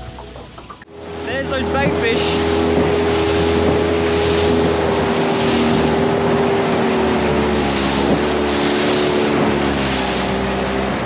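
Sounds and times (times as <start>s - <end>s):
outboard motor humming: 0.0s - 11.0s
water rushing against hull: 0.0s - 11.0s.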